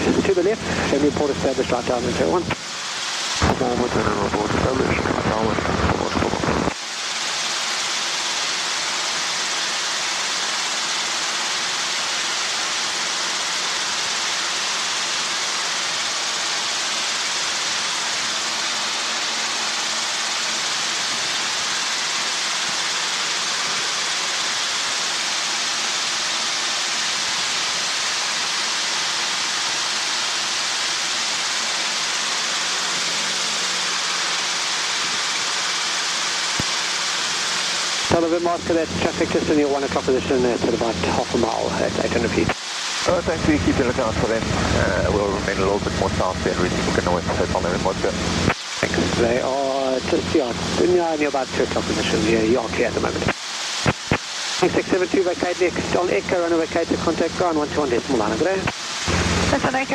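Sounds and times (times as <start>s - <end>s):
intercom hiss: 0.0s - 59.9s.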